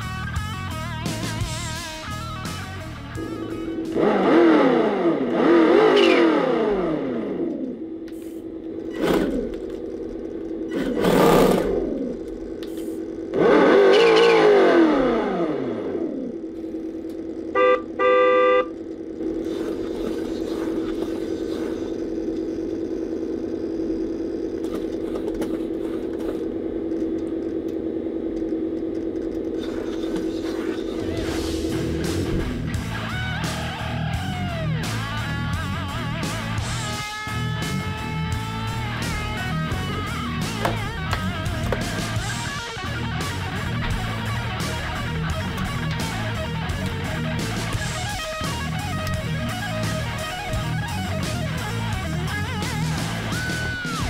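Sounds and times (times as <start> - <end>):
simulated engine revving: 0.7 - 54.0.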